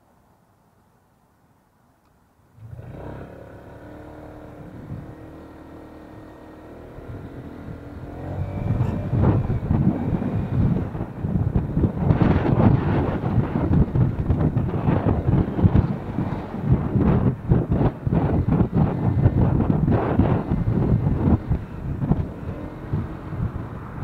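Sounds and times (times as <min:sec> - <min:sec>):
scooter engine accelerating: 0:02.6 - 0:24.0
wind noise on microphone: 0:02.8 - 0:24.0.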